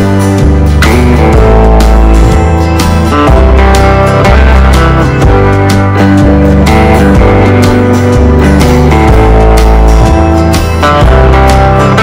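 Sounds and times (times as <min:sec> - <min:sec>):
guitar music with beat and bass: 0:00.0 - 0:12.0.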